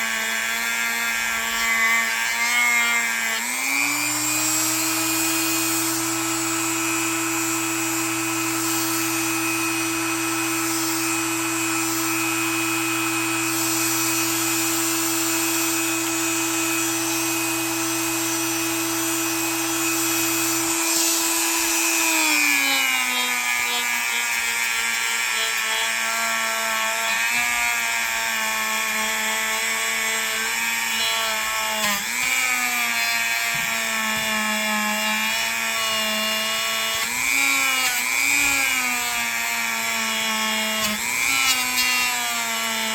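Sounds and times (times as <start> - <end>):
electric buffing tool whining: 0.0 - 42.9.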